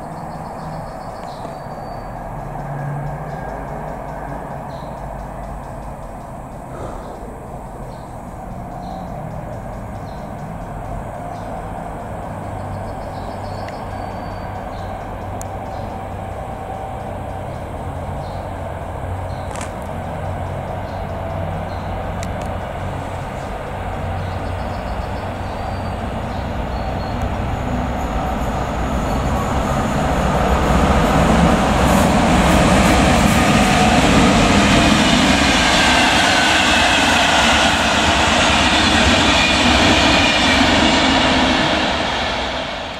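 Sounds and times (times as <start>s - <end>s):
electric train passing: 0.0s - 42.9s.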